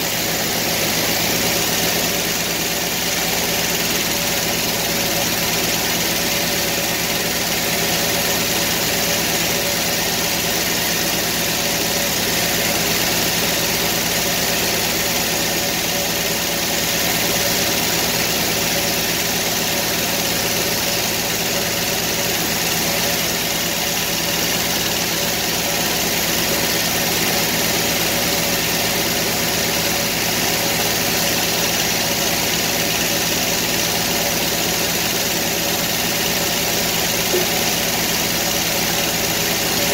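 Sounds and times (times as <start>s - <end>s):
circular sawmill running: 0.0s - 39.9s.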